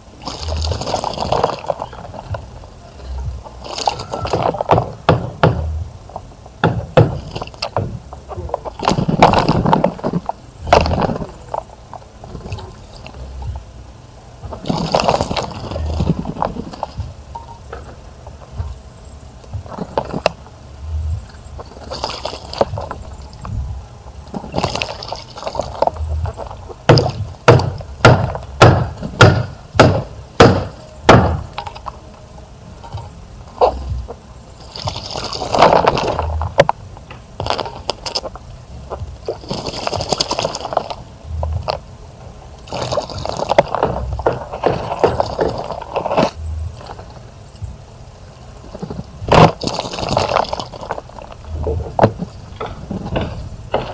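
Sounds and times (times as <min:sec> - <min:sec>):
birds splashing in water: 0:00.0 - 0:53.9.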